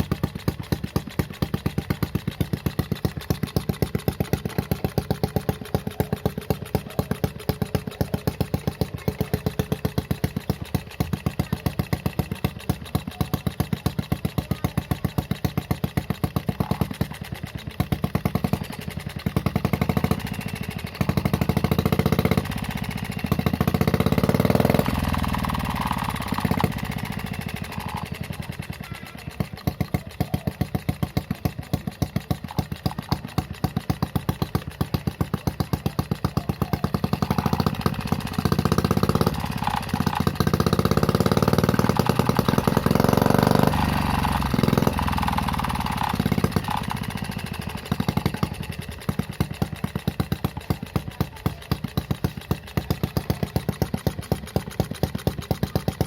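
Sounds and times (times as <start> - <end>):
small engine idling and revving: 0.0 - 56.0.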